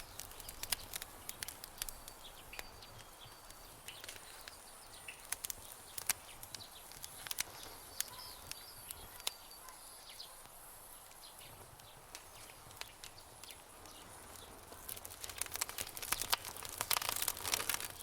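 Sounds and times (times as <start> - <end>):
campfire crackling and popping: 0.0 - 18.0
insect chirps: 0.0 - 18.0.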